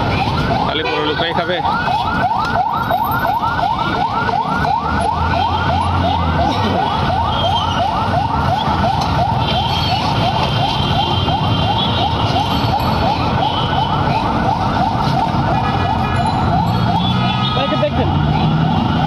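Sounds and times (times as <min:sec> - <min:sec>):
electronic siren yelping: 0:00.0 - 0:19.0.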